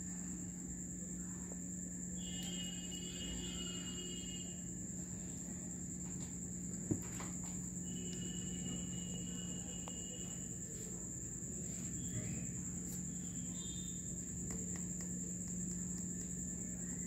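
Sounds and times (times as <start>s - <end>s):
crickets trilling: 0.0s - 17.0s
steady low hum: 0.0s - 17.0s.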